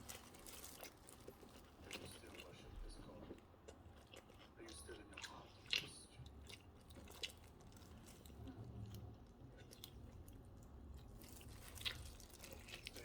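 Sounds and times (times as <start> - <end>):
food crunching: 0.0 - 13.0.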